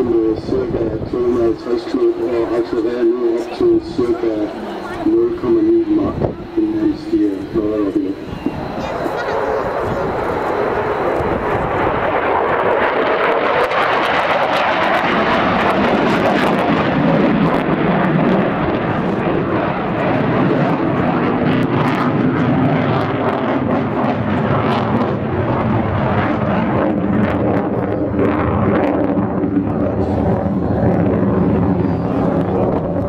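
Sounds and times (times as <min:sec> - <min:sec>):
jet flying overhead: 0:00.0 - 0:33.0.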